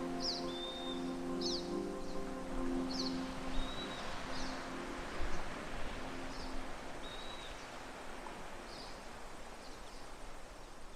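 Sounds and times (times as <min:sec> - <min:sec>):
low sustained music notes: 0:00.0 - 0:09.2
steady wash of noise: 0:00.0 - 0:10.6.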